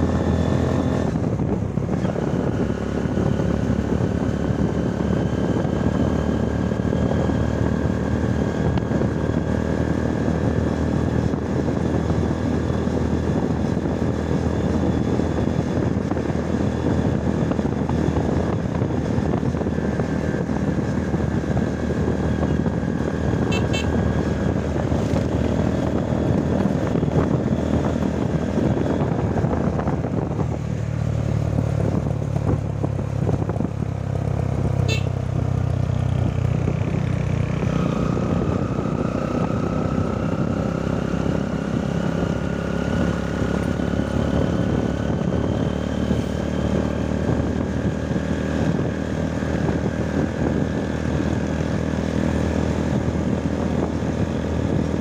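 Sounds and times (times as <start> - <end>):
motorcycle engine whine: 0.0 - 55.0
road noise: 0.0 - 55.0.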